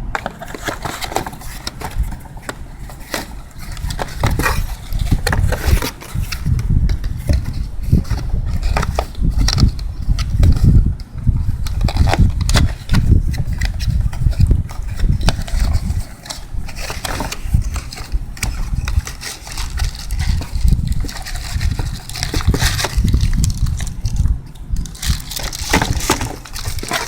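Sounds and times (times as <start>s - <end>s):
handling noise on microphone: 0.0s - 27.0s
plastic and metal parts clicking: 0.0s - 27.0s.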